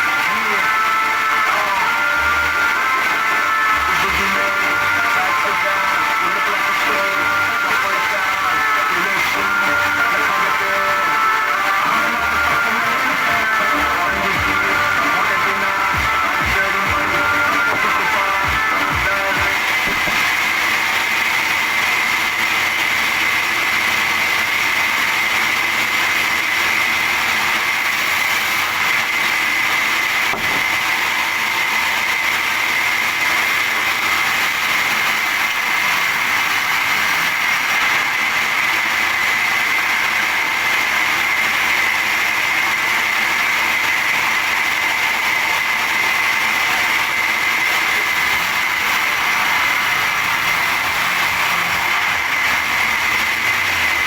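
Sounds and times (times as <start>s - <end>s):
high steady whine: 0.0s - 54.0s
sawmill machinery running: 0.0s - 54.0s.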